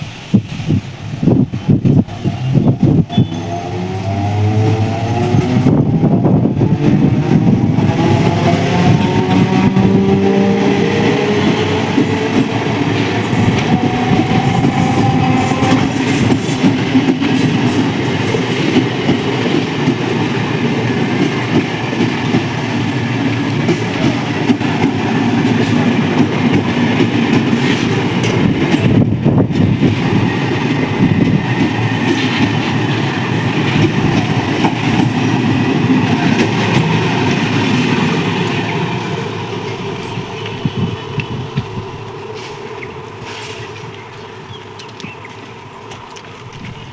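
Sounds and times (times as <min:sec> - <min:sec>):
train wheels clattering on rails: 0:00.0 - 0:46.9.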